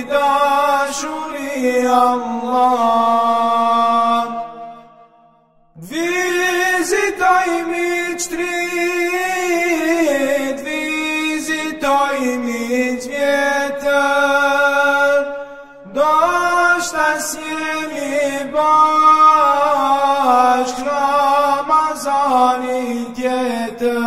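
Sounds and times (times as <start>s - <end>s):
men singing wordless chant: 0.0s - 4.8s, 5.8s - 24.0s.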